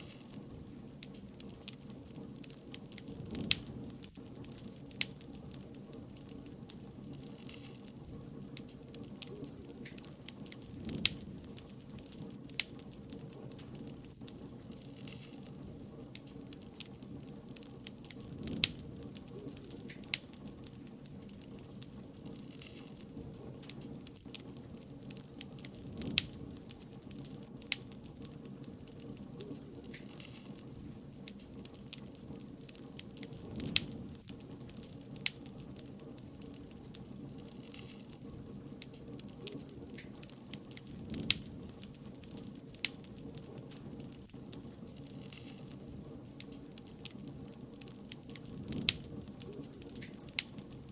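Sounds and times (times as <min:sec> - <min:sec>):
bonfire crackling: 0:00.0 - 0:50.9
low hiss of fire: 0:00.0 - 0:50.9.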